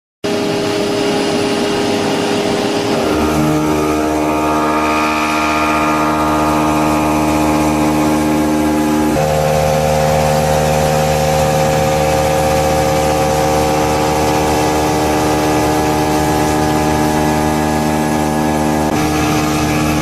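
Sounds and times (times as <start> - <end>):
machine motors whining: 0.4 - 20.0.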